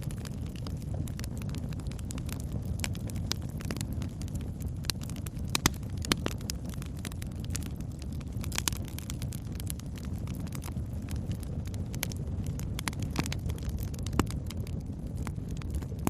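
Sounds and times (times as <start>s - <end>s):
burning wood crackling and popping: 0.0s - 16.0s
low roar of flames: 0.0s - 16.0s.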